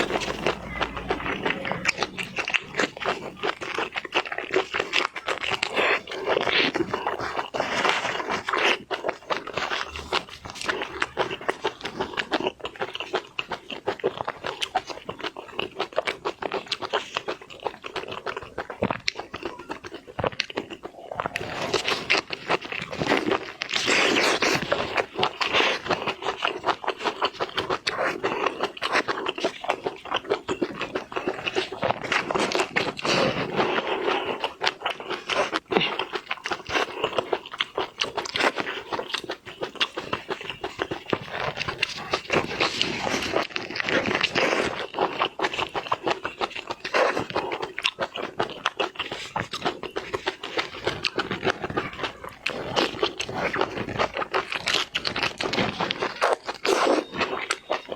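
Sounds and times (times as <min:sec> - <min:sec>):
wet crunching chewing: 0:00.0 - 0:57.9.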